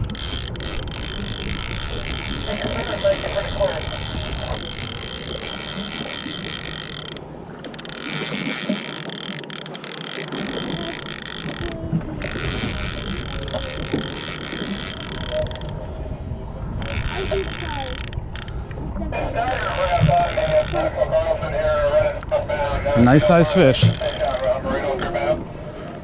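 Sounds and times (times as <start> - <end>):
fishing reel gears whirring: 0.0 - 15.8, 16.7 - 18.6, 19.4 - 21.0, 21.9 - 25.3.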